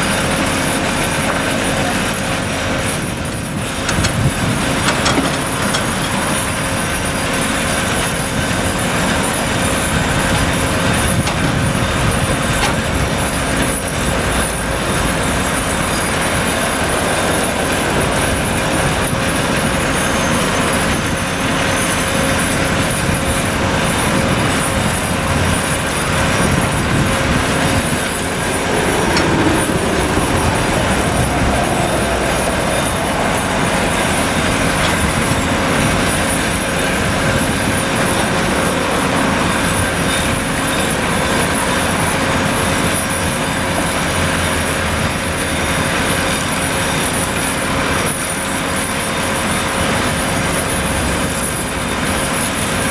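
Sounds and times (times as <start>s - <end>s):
excavator engine and hydraulics droning: 0.0s - 52.9s.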